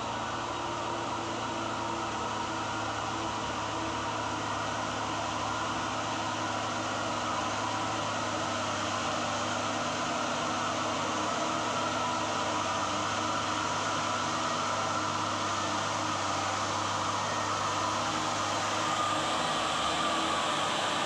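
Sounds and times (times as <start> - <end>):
truck diesel engine climbing: 0.0 - 21.0.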